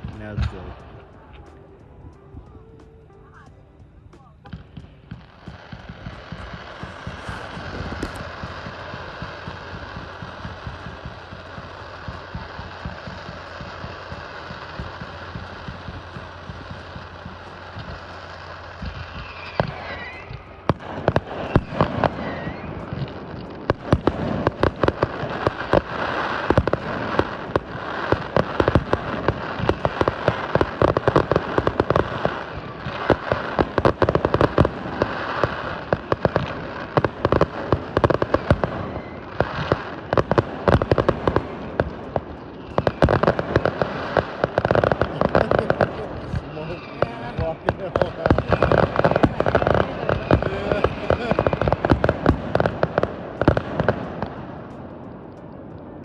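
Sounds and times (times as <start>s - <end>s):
background rumble: 0.0s - 56.0s
firework bangs and crackling: 0.0s - 56.0s
firework whistle: 4.4s - 54.8s.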